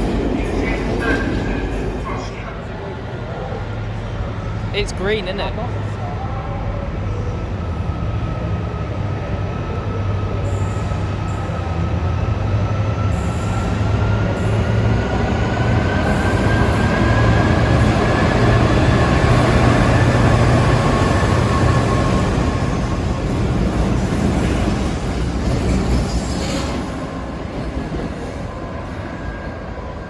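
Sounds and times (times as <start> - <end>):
train running with low hum: 0.0 - 30.0.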